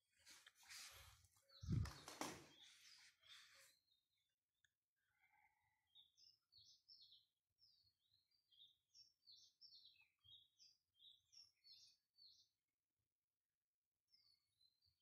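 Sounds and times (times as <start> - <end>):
faint birdsong chirping: 0.0 - 13.1, 14.0 - 15.0.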